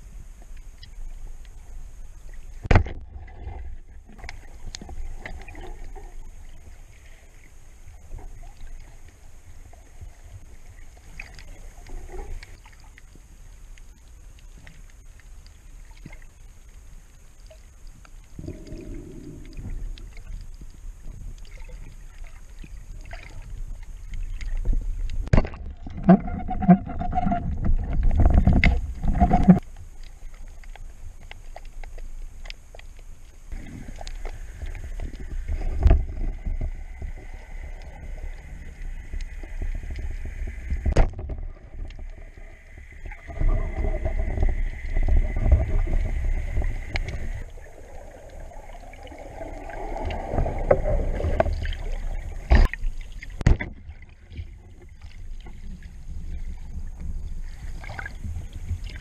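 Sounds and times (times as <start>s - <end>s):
low underwater noise: 0.0s - 59.0s.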